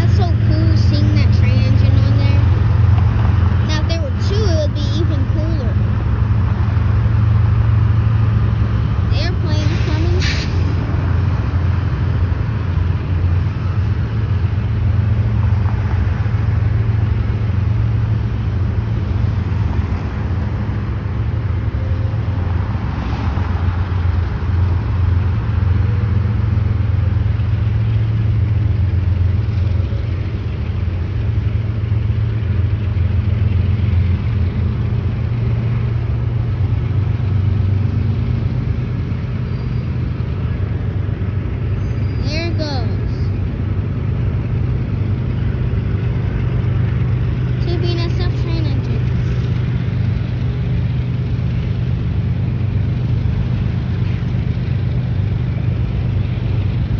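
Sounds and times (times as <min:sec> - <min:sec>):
car engine and tyre noise: 0:00.0 - 0:56.9.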